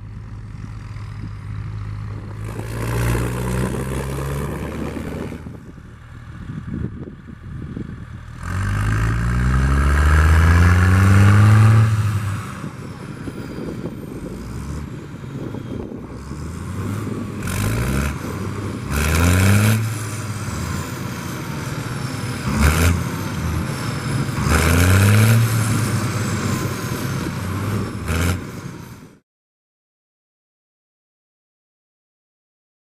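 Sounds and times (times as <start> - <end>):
tractor diesel engine revving: 0.0 - 29.1.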